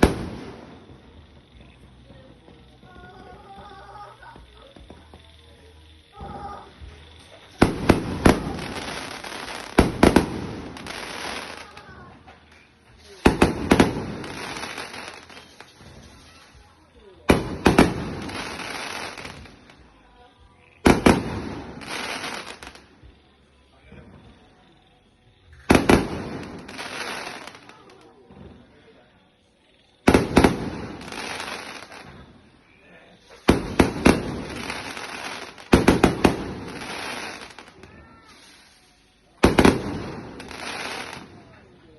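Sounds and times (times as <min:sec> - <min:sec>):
fireworks crackling: 0:00.0 - 0:24.4, 0:25.5 - 0:41.9.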